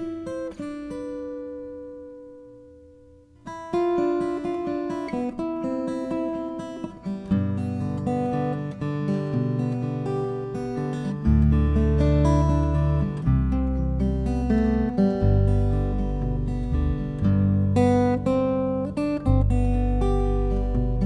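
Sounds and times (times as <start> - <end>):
acoustic guitar picking: 0.0 - 21.0.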